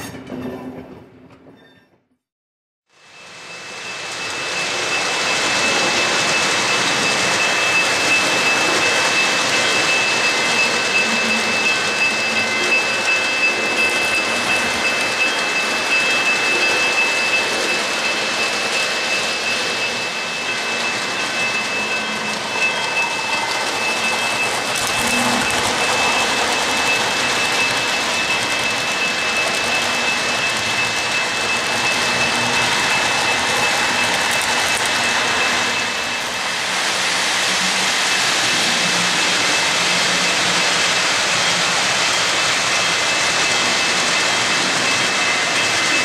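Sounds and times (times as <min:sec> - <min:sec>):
model train wheels rushing on rail: 0:03.0 - 0:46.0.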